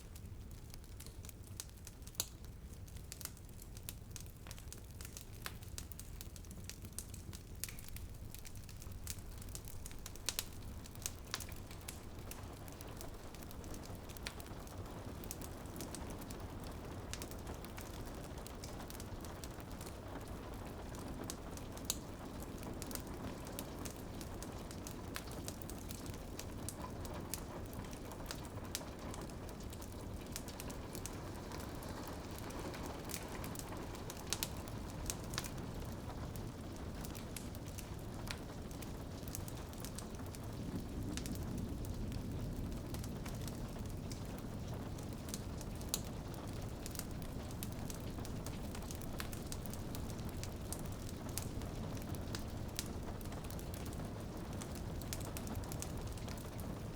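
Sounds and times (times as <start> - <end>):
rain on a window: 0.0 - 56.9
wood fire crackling: 0.0 - 56.9.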